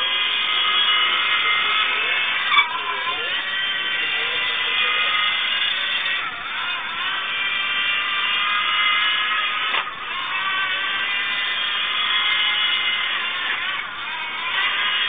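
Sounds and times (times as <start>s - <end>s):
toy motor whirring: 0.0s - 15.0s.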